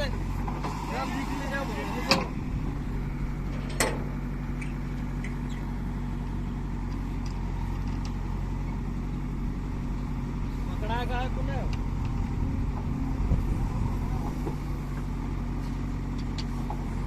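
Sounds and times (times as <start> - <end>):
heavy machine diesel engine running: 0.0 - 17.0.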